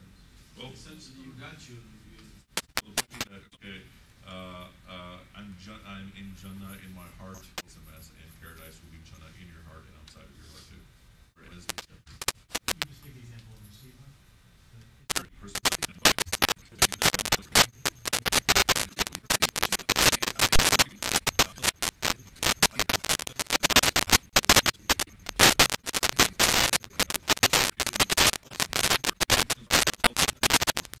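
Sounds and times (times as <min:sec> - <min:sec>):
crackling and scratching noise: 0:01.4 - 0:03.7, 0:06.3 - 0:31.0.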